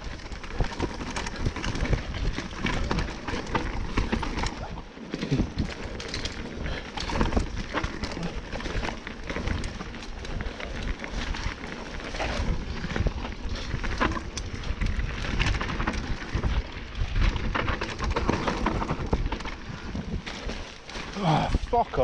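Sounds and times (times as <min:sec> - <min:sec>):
mountain bike rattling over bumps: 0:00.0 - 0:22.0
tyre noise on dirt: 0:00.0 - 0:22.0.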